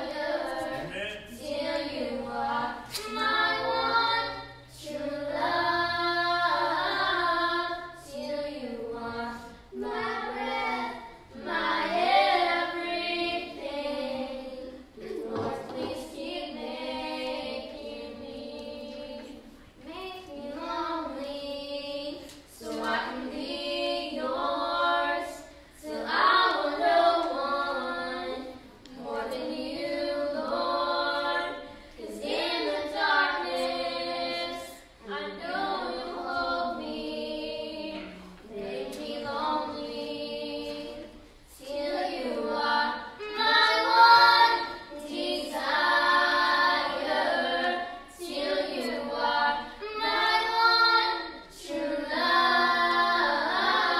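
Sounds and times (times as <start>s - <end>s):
children singing together: 0.0s - 53.9s.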